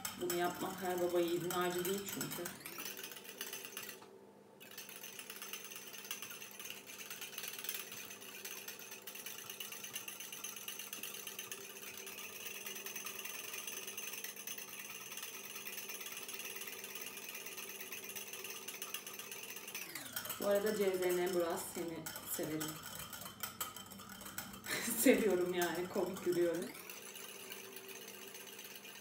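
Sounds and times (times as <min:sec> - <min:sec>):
whisk clinking against bowl: 0:00.0 - 0:03.9, 0:04.7 - 0:29.0.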